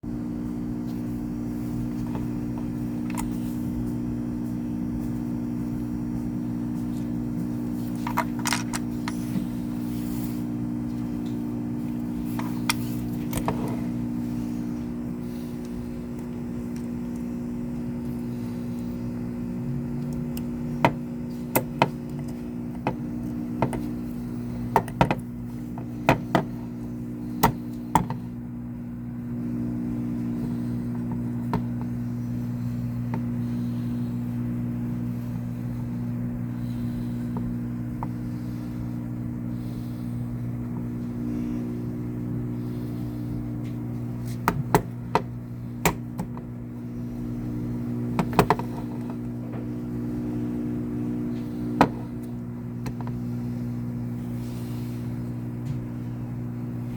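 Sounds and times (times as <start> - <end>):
electrical machine hum: 0.0 - 56.9.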